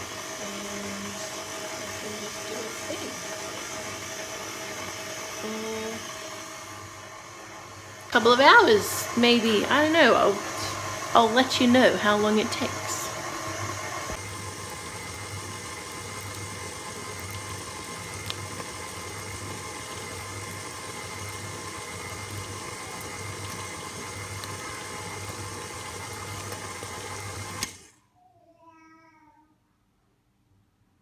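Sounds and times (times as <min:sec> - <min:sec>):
stand mixer running: 0:00.0 - 0:27.9.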